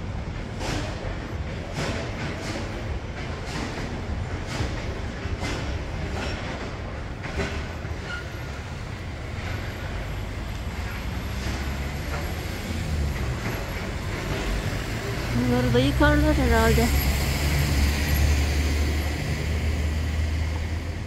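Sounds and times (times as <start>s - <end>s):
low street rumble: 0.0s - 21.0s.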